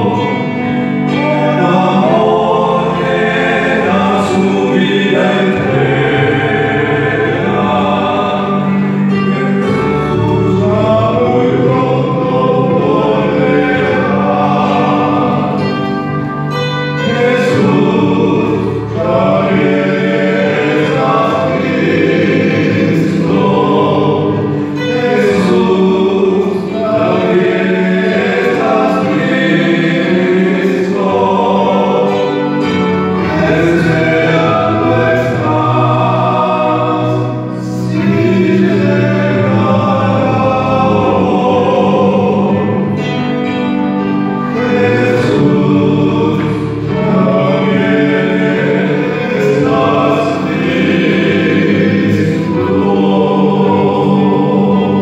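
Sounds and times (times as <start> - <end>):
male vocal quartet singing: 0.0 - 55.0.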